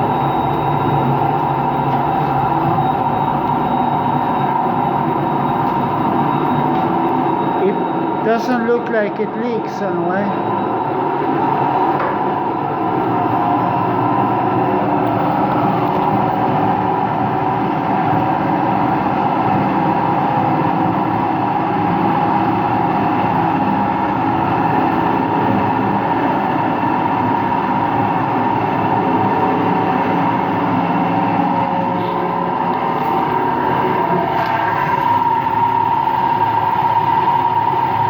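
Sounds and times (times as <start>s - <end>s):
bearing whine: 0.0s - 38.0s
washing machine rumbling: 0.0s - 38.0s.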